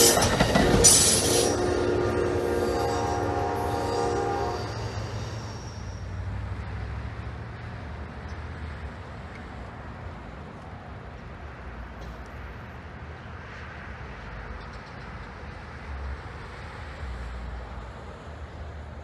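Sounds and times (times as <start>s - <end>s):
distant diesel train rumble: 0.0s - 19.0s
road traffic: 0.0s - 19.0s.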